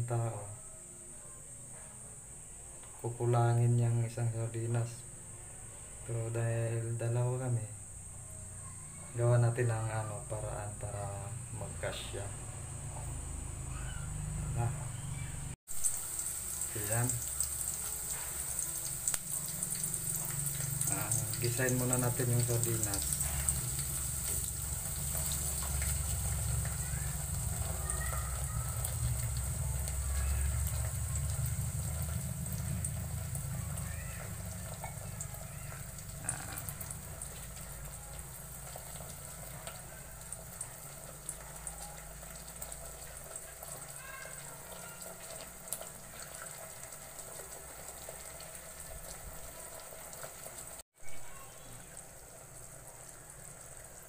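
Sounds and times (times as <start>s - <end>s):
food sizzling in a pot: 0.0s - 54.0s.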